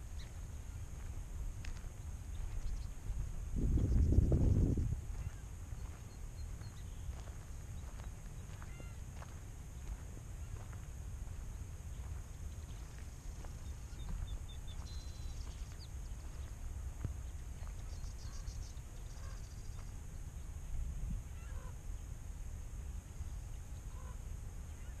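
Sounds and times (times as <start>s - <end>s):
distant bird chips and trills: 0.0s - 1.2s, 1.8s - 22.2s, 22.8s - 25.0s
wind rumble on microphone: 0.0s - 25.0s.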